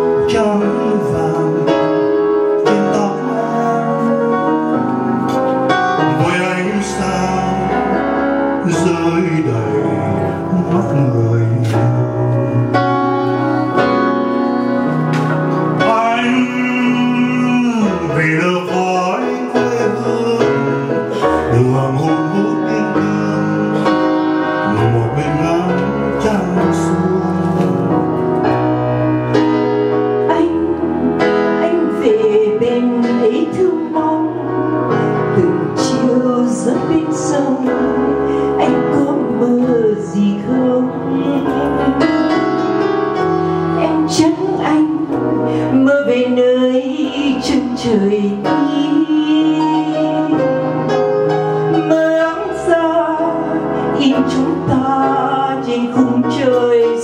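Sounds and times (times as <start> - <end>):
song duet with keyboard: 0.0 - 57.0.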